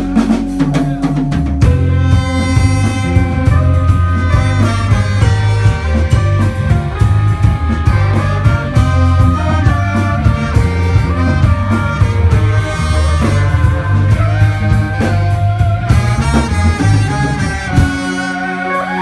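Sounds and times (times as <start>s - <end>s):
drum kit: 0.0s - 19.0s
electric bass line: 0.0s - 19.0s
electric guitar: 0.0s - 19.0s
saxophone and trombone horns: 0.0s - 19.0s.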